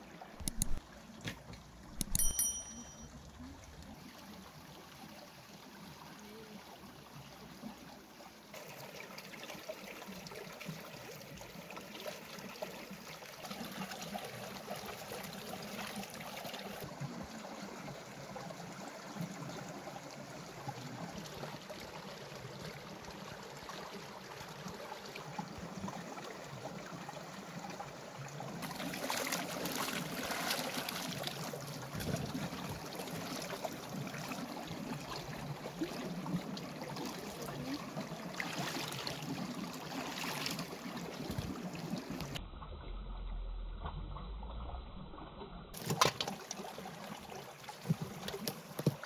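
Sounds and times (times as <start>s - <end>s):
stream running over stones: 0.0s - 42.4s, 45.5s - 49.0s.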